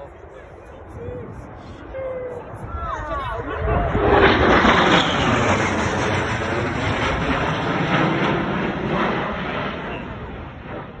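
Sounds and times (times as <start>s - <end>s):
aircraft engines roaring: 0.0s - 11.0s.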